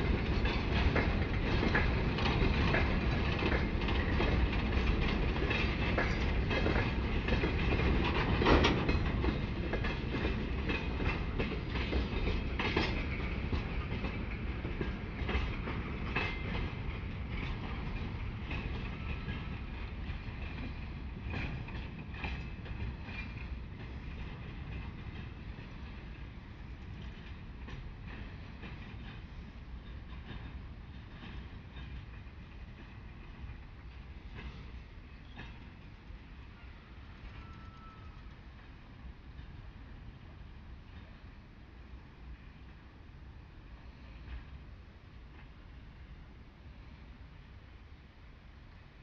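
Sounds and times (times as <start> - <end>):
train wheels clicking over rail joints: 0.0 - 41.4
low train rumble: 0.0 - 49.0.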